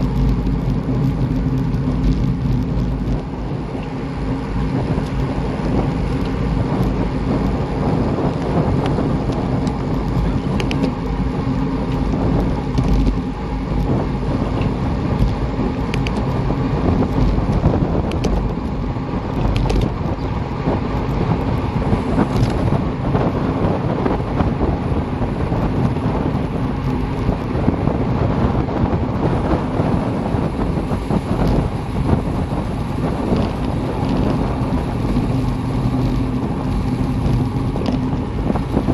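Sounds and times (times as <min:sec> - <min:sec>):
road rumble: 0:00.0 - 0:38.9
wind over microphone: 0:00.0 - 0:38.9.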